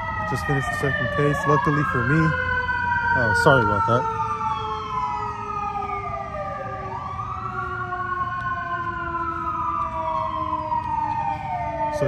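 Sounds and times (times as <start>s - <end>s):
siren wailing: 0.0s - 12.0s
steady siren tone: 0.0s - 12.0s.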